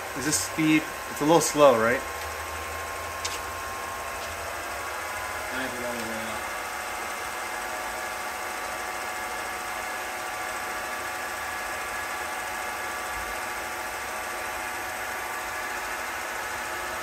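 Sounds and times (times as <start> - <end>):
film projector whirring: 0.0 - 17.0.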